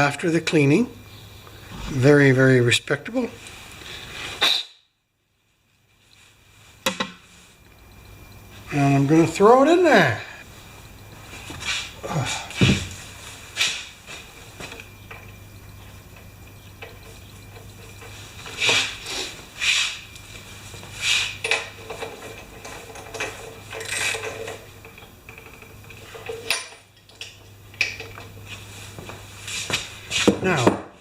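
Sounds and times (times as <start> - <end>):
low steady hum: 5.0 - 30.1.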